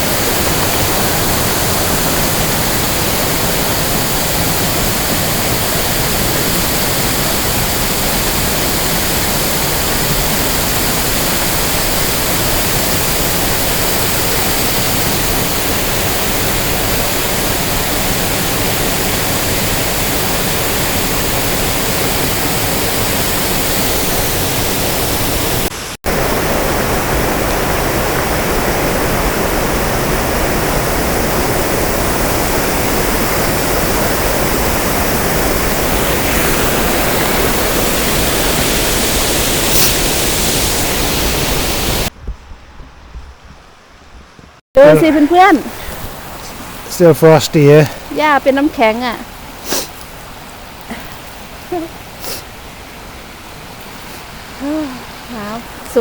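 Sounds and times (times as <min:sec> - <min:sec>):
waterfall rushing: 0:00.0 - 0:42.1, 0:44.8 - 0:56.0.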